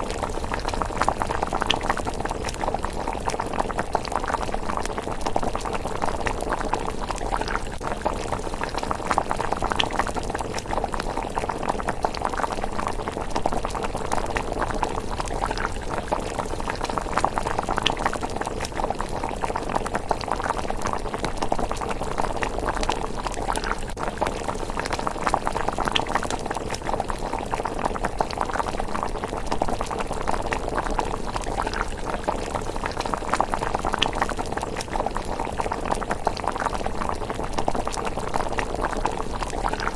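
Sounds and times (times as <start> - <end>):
porridge bubbling and popping: 0.0 - 39.9.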